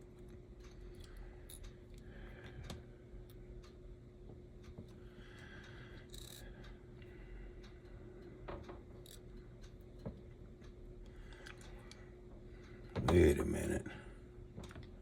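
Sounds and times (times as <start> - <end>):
faint steady hum: 0.0 - 15.0
small clicks and taps of parts: 0.1 - 13.1, 14.6 - 15.0.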